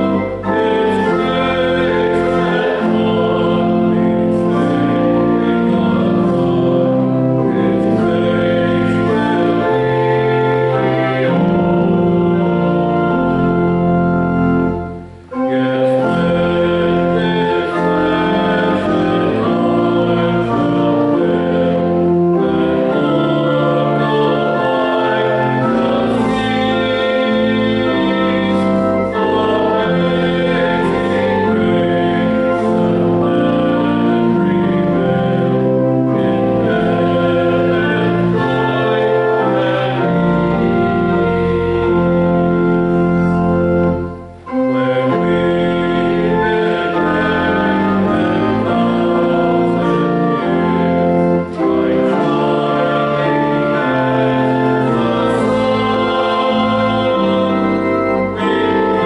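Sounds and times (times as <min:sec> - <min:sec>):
organ playing held chords: 0:00.0 - 0:59.0.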